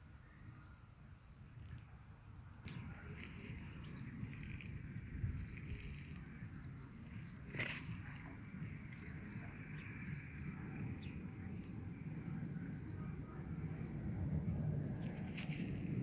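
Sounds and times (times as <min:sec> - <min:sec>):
small songbird chirping: 0:00.0 - 0:13.1
steady low rumble: 0:02.7 - 0:16.0.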